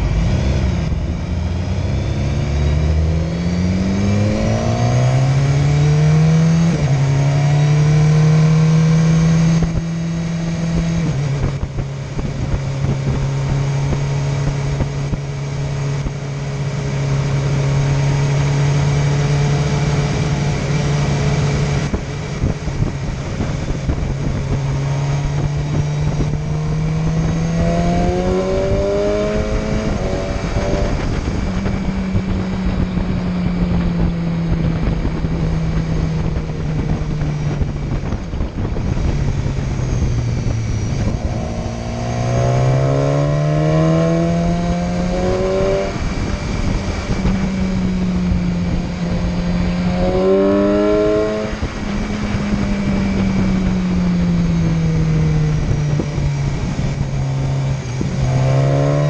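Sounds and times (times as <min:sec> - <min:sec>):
motorcycle engine accelerating: 0:00.0 - 0:59.0
wind noise on microphone: 0:00.0 - 0:59.0.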